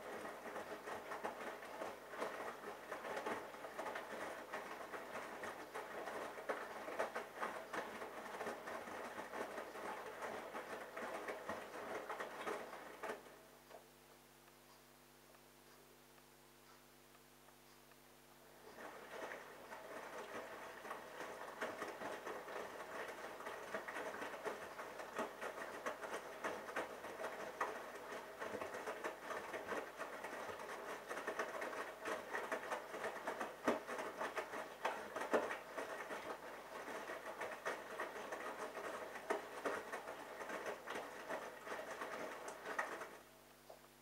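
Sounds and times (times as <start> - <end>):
washing machine drum tumbling wet clothes: 0.0 - 13.4, 18.6 - 43.3.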